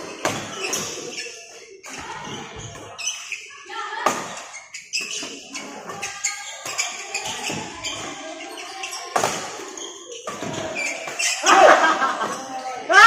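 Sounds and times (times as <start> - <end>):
rackets hitting shuttlecock: 0.0 - 2.9, 4.0 - 8.1, 8.9 - 12.5
shoes squeaking on court floor: 0.0 - 12.9.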